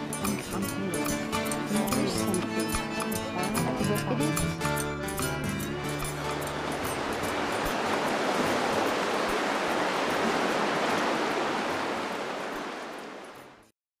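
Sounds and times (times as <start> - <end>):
rushing river water: 0.0 - 13.7.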